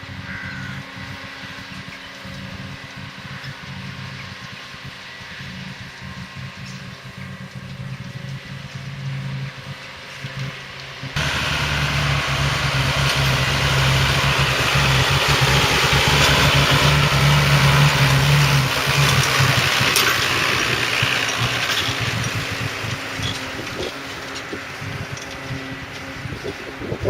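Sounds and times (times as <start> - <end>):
heavy diesel machinery engine: 0.0 - 27.0.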